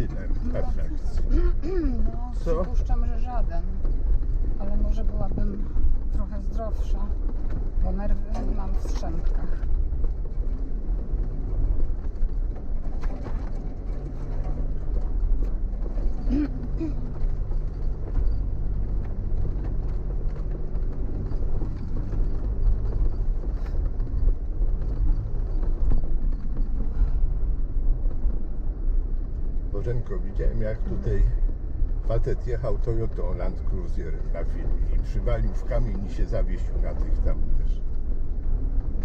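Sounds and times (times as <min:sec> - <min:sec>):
tyres rumbling on dirt track: 0:00.0 - 0:39.0
vehicle engine running slowly: 0:00.0 - 0:39.0.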